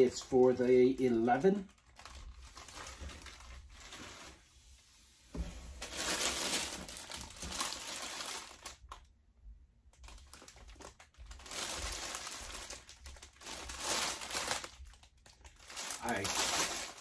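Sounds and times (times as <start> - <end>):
plastic packaging crinkling: 0.0 - 4.4, 5.7 - 9.1, 9.9 - 17.0.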